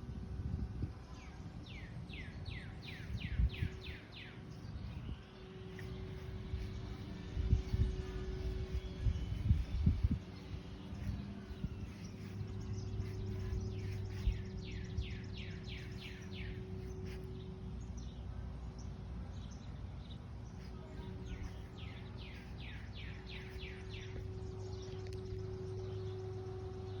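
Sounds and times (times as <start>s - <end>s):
steady low hum: 0.0s - 27.0s
songbird singing: 1.1s - 27.0s.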